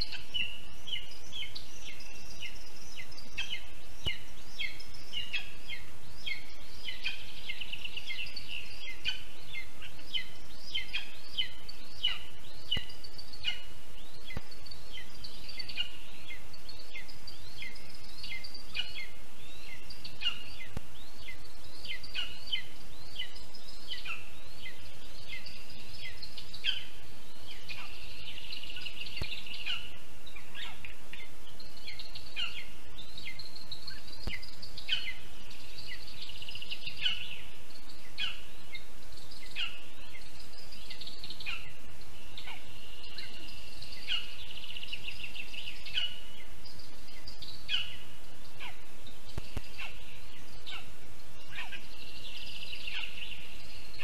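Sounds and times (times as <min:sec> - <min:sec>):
birds chirping: 0:00.0 - 0:54.0
steady background hiss: 0:00.0 - 0:54.0.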